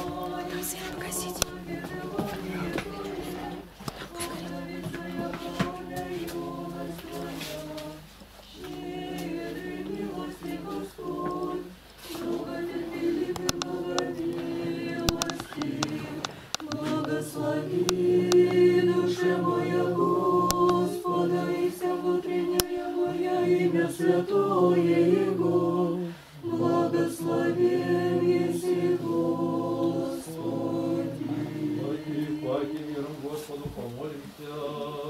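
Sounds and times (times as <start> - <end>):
choir singing unaccompanied: 0.0 - 35.0.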